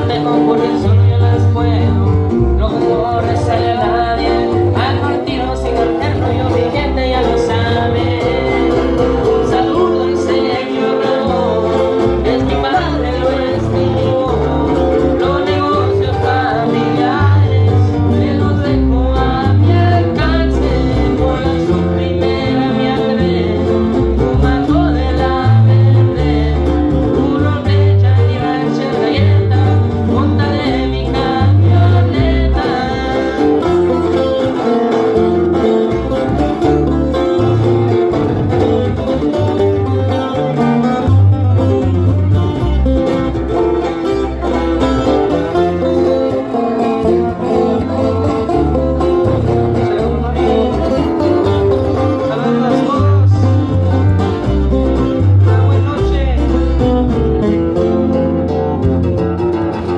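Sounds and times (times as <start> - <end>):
man singing into a microphone: 0.0 - 58.6
acoustic guitars strummed and picked: 0.0 - 59.9
deep bass notes: 0.0 - 59.9.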